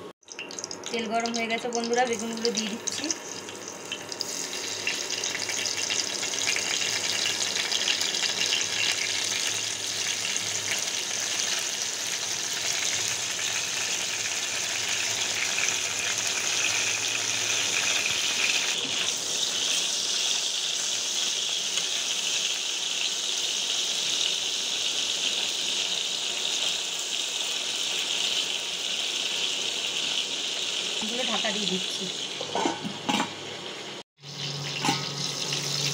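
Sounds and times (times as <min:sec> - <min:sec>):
vegetables frying in hot oil: 0:00.2 - 0:35.9.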